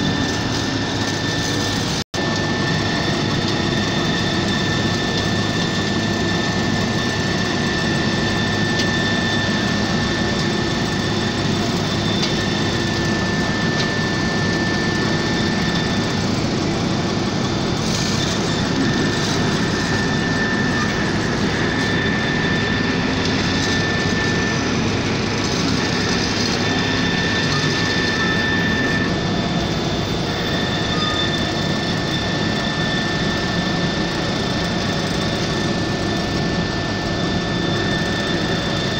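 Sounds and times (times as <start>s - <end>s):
heavy machinery engine running: 0.0s - 38.9s
high whine: 0.0s - 38.9s.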